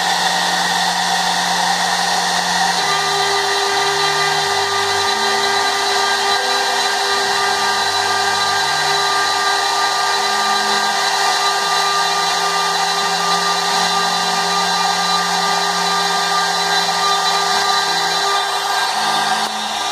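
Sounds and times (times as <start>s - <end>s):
low hum shifting pitch: 0.0s - 19.9s
router whine and hiss: 0.0s - 19.9s.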